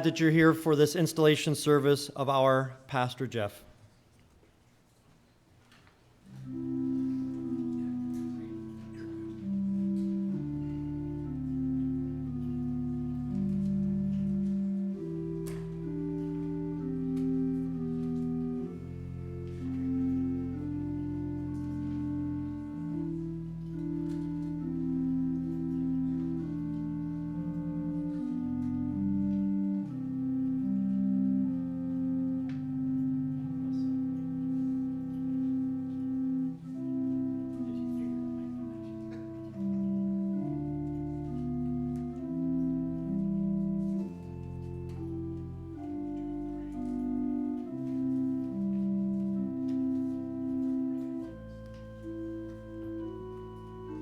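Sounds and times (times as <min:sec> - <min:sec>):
church organ playing chords: 0:00.0 - 0:03.6, 0:06.2 - 0:54.0.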